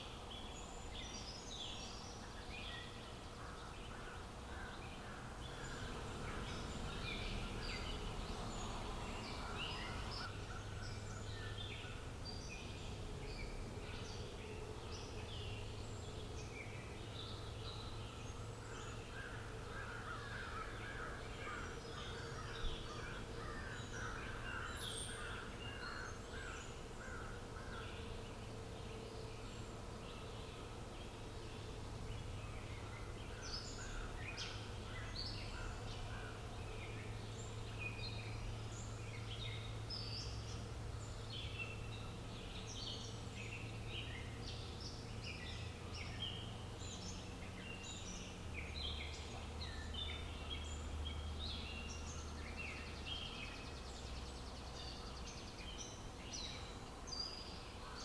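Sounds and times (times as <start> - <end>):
wild birds chirping and calling: 0.0 - 58.0.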